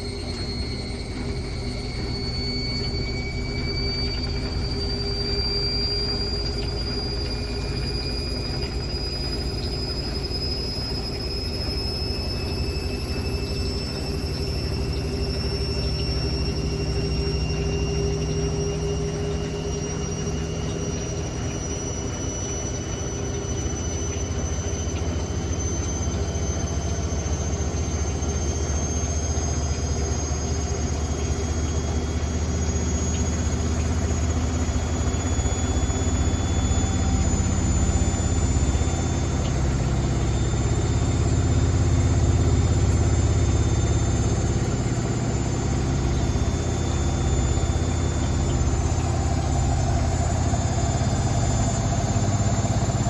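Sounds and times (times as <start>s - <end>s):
washing machine spinning whine: 0.0s - 53.0s.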